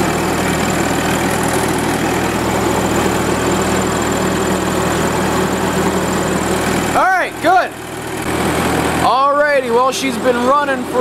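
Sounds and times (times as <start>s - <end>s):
generator running: 0.0s - 11.0s.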